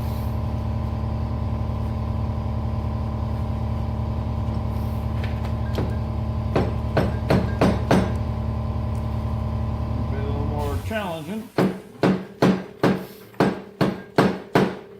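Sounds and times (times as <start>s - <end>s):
air compressor humming: 0.0s - 14.4s.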